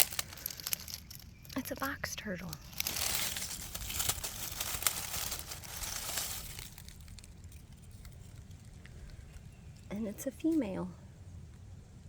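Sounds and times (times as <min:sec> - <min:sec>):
rustling in dry leaves: 0:00.0 - 0:09.9.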